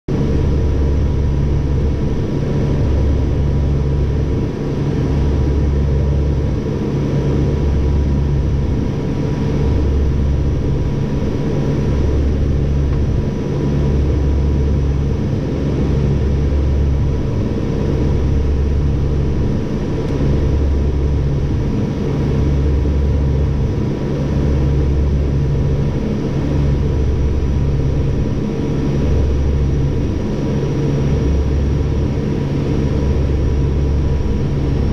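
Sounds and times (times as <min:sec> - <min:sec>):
turboprop engines droning: 0:00.1 - 0:34.9.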